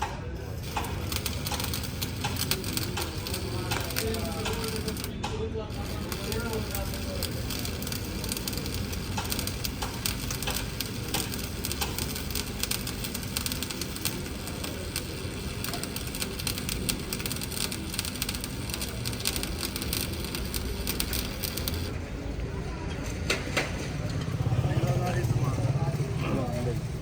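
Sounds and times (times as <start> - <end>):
arc welding crackle: 0.0 - 22.0.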